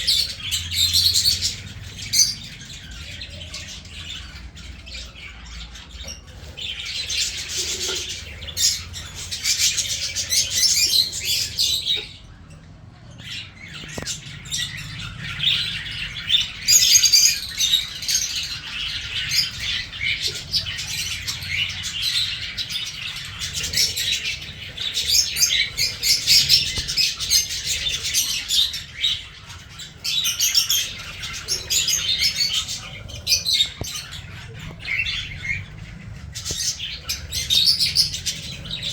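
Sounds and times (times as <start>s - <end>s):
cage birds chirping: 0.0s - 38.9s.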